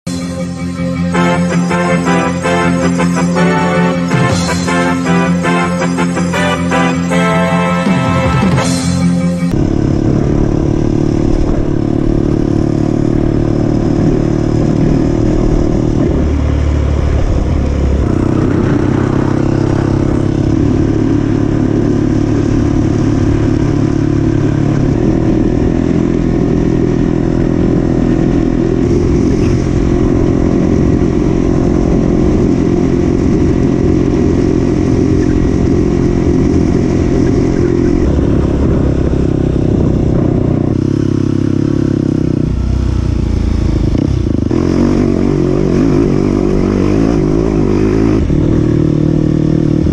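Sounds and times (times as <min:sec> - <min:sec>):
dirt bike engine running hard: 0:00.1 - 0:49.9.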